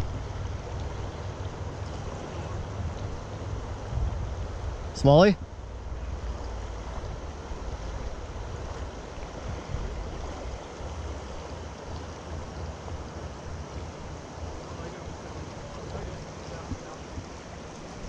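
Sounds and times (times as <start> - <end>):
creek current rushing: 0.0 - 18.0
wind rumbling on microphone: 0.0 - 18.0.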